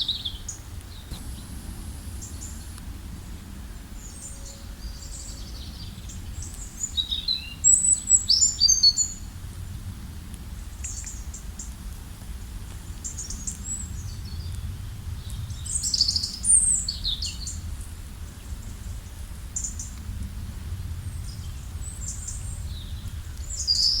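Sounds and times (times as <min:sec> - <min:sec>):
low steady rumble: 0:00.0 - 0:07.4, 0:09.1 - 0:24.0.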